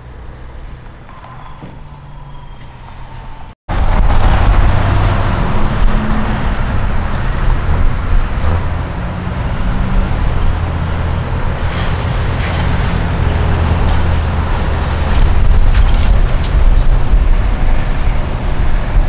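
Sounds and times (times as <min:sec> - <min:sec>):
trucks engine drone: 0:00.0 - 0:19.0
tyre and road noise: 0:00.0 - 0:19.0.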